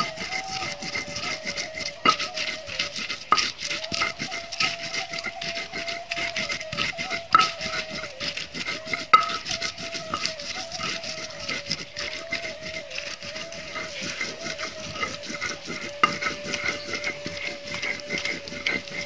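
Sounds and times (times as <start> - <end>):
grinding stone scraping slab: 0.0 - 19.0
stone-on-stone clacks: 0.0 - 19.0.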